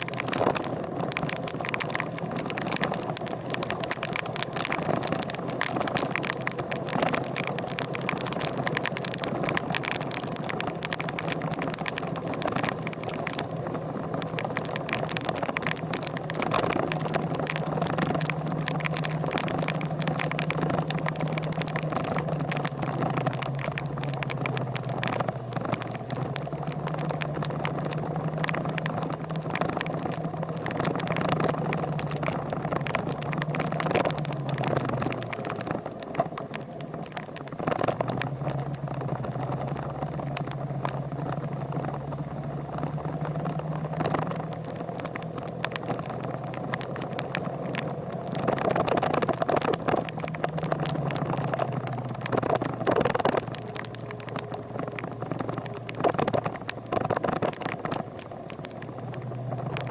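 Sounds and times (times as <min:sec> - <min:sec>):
constant rushing noise: 0:00.0 - 0:59.9
sharp clicks: 0:00.0 - 0:59.9
vehicle engine humming: 0:00.0 - 0:59.9.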